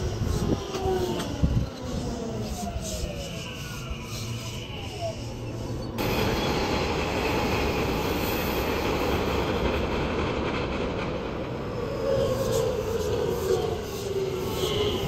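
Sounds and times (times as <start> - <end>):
train brakes squealing: 0.0 - 9.6, 11.6 - 15.0
train wheels and motors rumbling: 0.0 - 15.0.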